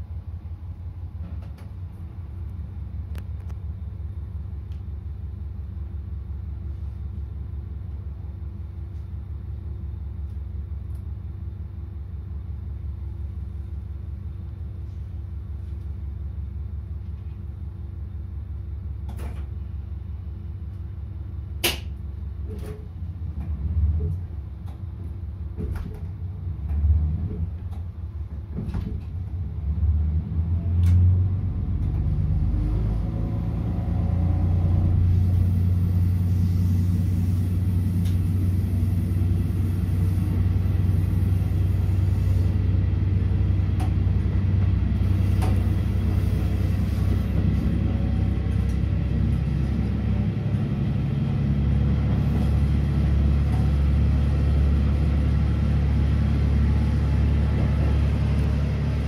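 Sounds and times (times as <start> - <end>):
diesel railcar engine drone: 0.0 - 59.0.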